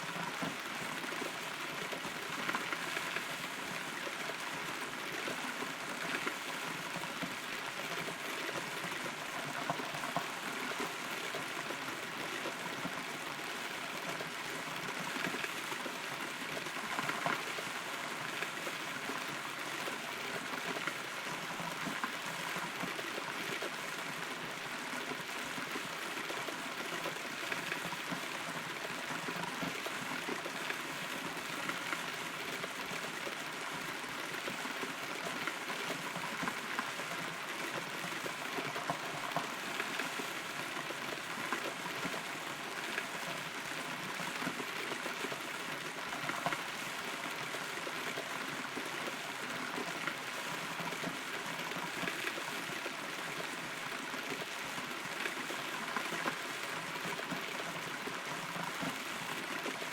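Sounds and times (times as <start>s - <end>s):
raindrops striking nearby: 0.0s - 59.9s
steady rainfall: 0.0s - 59.9s.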